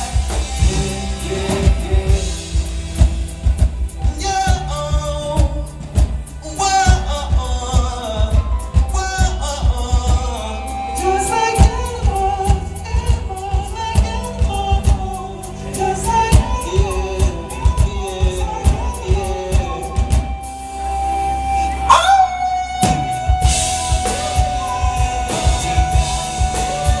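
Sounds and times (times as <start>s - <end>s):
man singing: 0.0s - 3.2s, 4.0s - 20.5s, 21.9s - 27.0s
drum beat: 0.0s - 10.6s, 11.6s - 15.3s, 16.0s - 20.4s, 22.8s - 27.0s
electric bass: 0.0s - 27.0s
keyboards: 0.0s - 27.0s.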